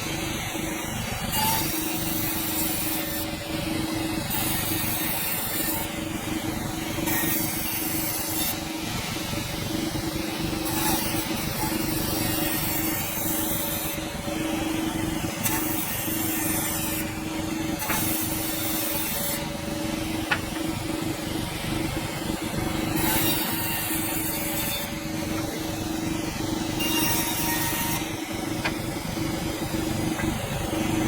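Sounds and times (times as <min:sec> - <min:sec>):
sawmill blade cutting log: 0:00.0 - 0:21.2, 0:22.4 - 0:31.0.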